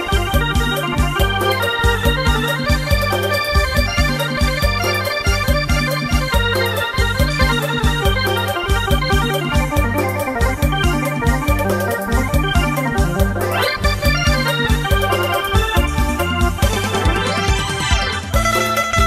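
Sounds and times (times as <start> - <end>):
music with steady beat: 0.0 - 19.0
sustained keyboard chords: 0.0 - 19.0.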